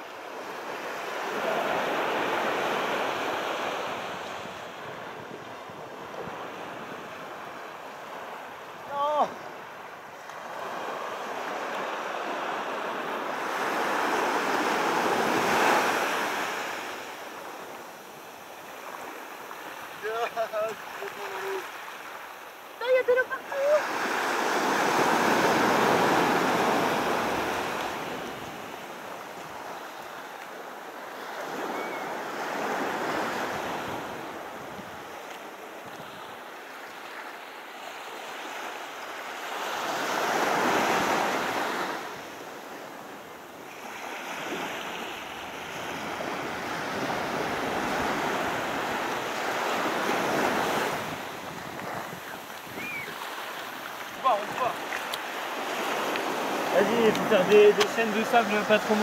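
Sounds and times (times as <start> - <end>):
sea surf breaking on a beach: 0.0 - 59.0.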